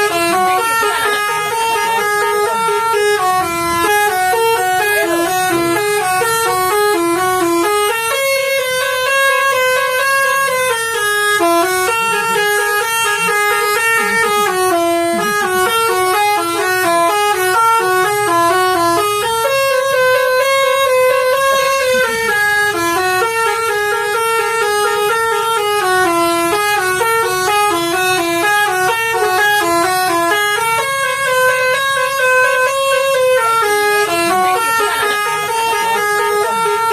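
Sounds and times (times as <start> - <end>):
bus horn melody: 0.0 - 36.9.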